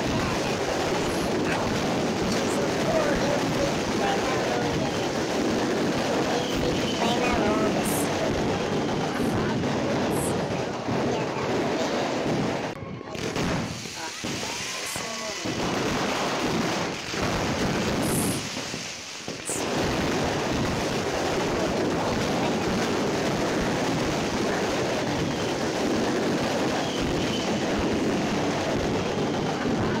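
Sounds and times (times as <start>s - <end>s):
fireworks crackling pops: 0.0s - 30.0s.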